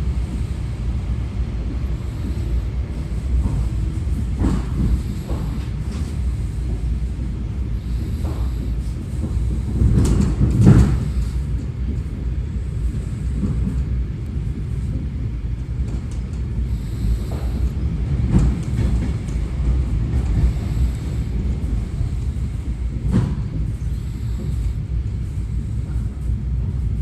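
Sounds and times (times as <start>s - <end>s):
train rumble inside carriage: 0.0s - 27.0s.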